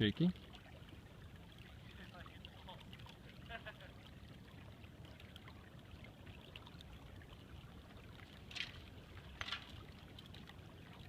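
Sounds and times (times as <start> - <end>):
faint flowing water: 0.0 - 11.0.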